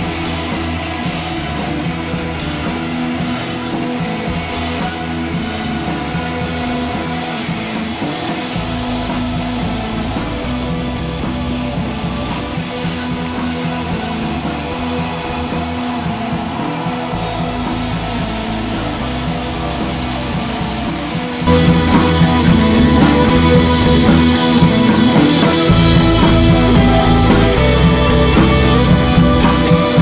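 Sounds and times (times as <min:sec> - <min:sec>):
rock music with guitar: 0:00.0 - 0:30.0.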